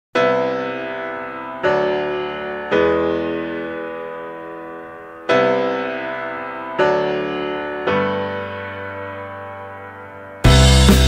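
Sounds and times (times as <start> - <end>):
slow piano chords: 0.2 - 11.0.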